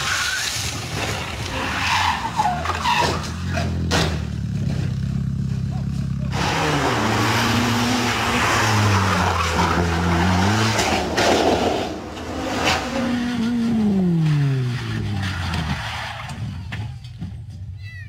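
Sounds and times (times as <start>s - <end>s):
car engines revving: 0.0s - 17.5s
tyres skidding: 0.0s - 17.8s.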